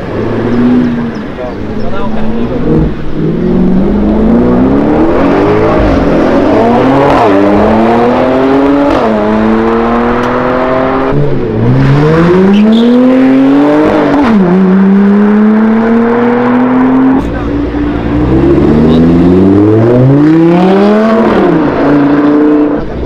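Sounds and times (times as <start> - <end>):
car engine accelerating through gears: 0.0 - 23.0.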